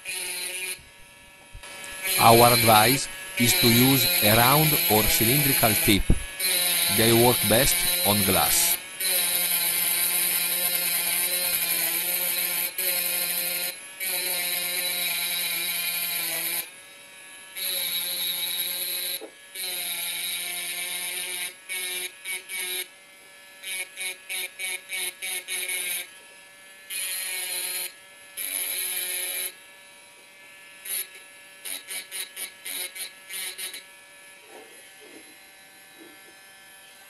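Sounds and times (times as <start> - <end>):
rotary tool grinding glass: 0.0 - 16.7, 17.6 - 22.9, 26.9 - 29.6, 30.8 - 36.3.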